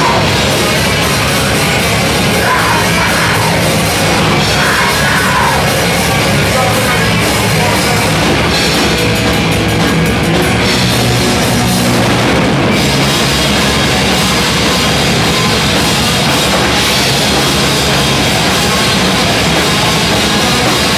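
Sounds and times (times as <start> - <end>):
loud rock music with drums: 0.0 - 20.9.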